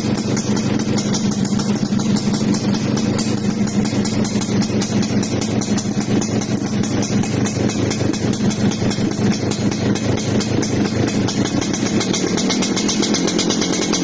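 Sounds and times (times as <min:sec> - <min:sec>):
two-stroke motorcycle idling: 0:00.0 - 0:14.0.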